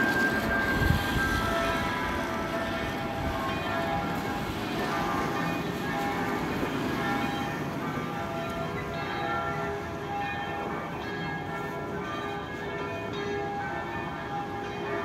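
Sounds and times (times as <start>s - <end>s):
church bells ringing: 0.0s - 15.0s
low city rumble: 0.0s - 15.0s.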